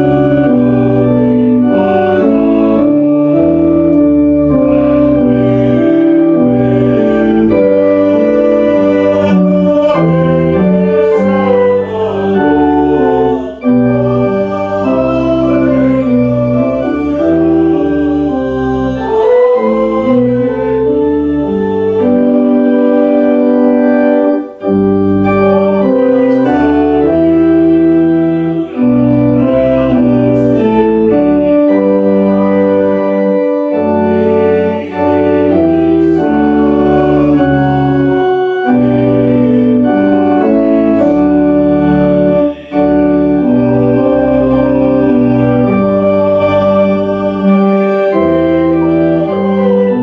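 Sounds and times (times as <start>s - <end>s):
church organ playing chords: 0.0s - 50.0s.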